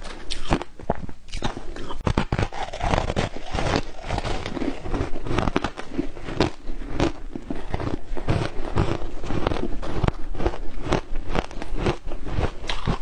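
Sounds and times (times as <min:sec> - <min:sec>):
ice crunching while chewed: 0:00.0 - 0:13.0.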